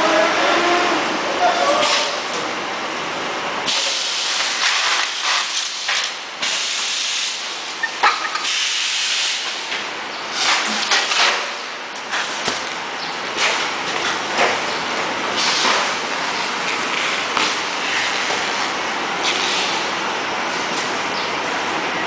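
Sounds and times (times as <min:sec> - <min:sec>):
machinery hissing: 0:00.0 - 0:22.0.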